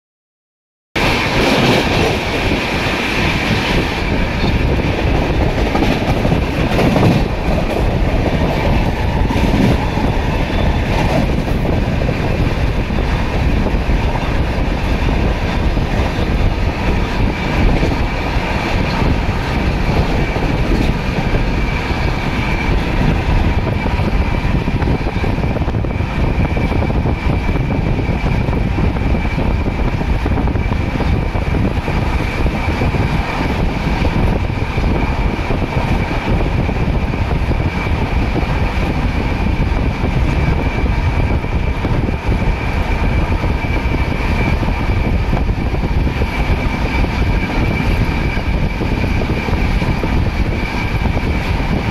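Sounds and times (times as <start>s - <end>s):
train wheels rumbling on rails: 1.0s - 51.9s.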